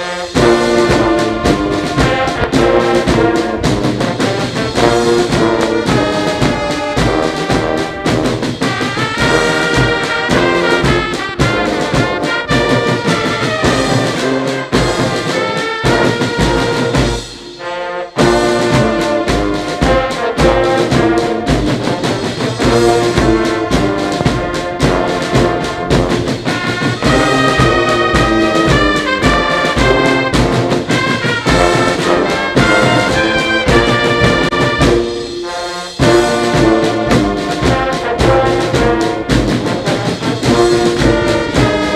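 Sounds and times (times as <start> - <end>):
steady low drum beat: 0.0 - 17.6, 18.2 - 41.9
brass band music: 0.0 - 41.9.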